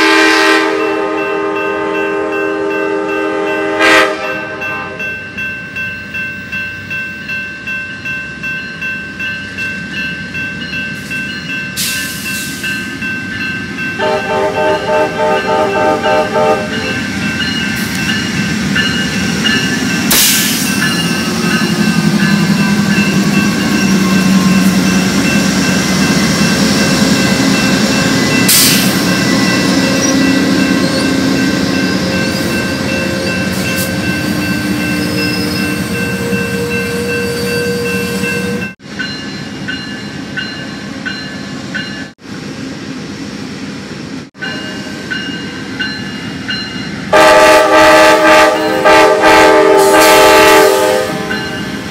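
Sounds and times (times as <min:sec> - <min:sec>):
diesel locomotive engine drone: 0:00.0 - 0:51.9
distant train rumble: 0:00.0 - 0:51.9.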